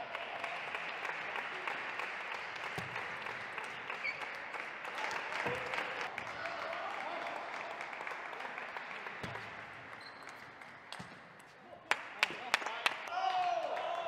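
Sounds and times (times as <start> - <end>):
crowd clapping: 0.0 - 11.0, 11.8 - 14.0.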